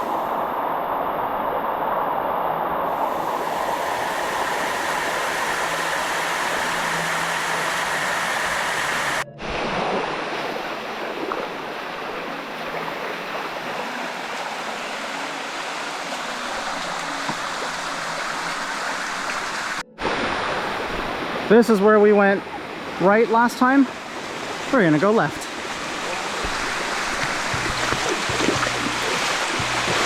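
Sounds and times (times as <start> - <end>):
water rushing over cascades: 0.0 - 30.0.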